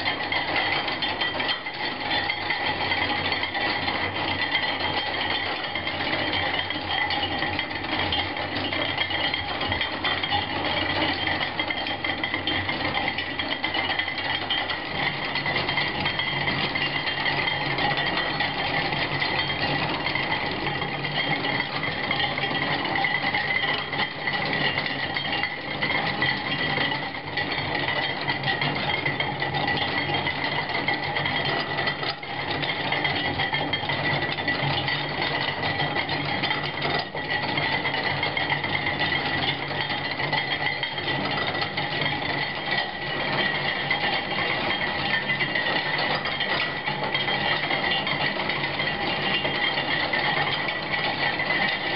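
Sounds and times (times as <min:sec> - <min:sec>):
ringing hum: 0:00.0 - 0:51.9.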